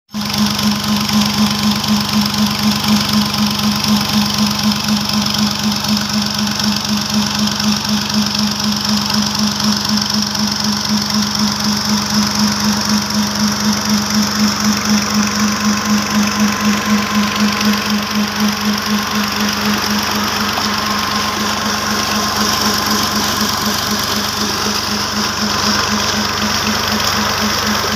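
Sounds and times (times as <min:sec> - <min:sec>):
tractor diesel engine pulsing: 0:00.1 - 0:27.9.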